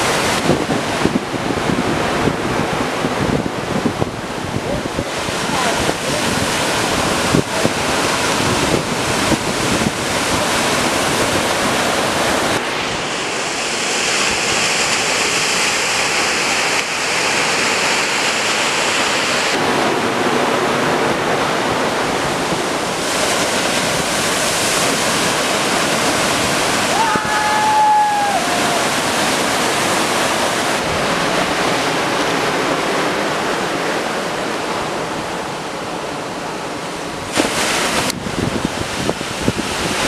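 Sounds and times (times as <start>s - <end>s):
wind buffeting microphone: 0.0s - 15.9s, 19.5s - 40.0s
rushing wind and water: 0.0s - 40.0s.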